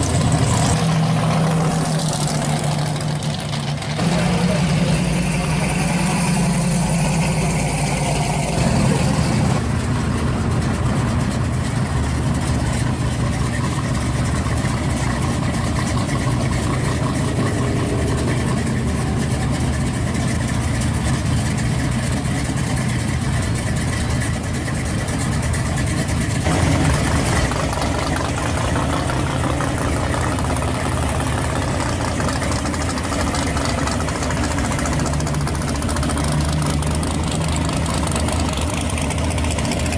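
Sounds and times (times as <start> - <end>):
car engines idling and rumbling: 0.0 - 39.9.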